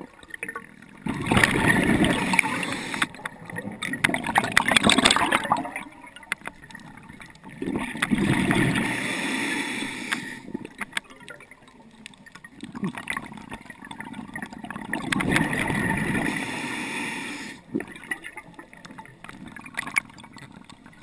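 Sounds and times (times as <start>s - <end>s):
crackling clicks: 0.0s - 21.0s
underwater air bubbles gurgling: 0.0s - 21.0s.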